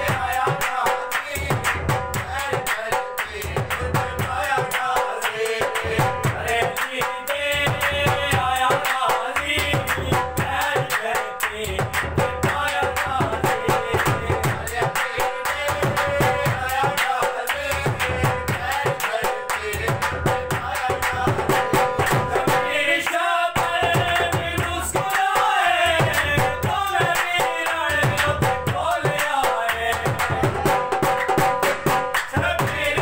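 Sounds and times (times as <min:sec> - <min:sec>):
dhol drum beating: 0:00.0 - 0:33.0
men clapping: 0:00.0 - 0:33.0
men singing: 0:00.0 - 0:33.0.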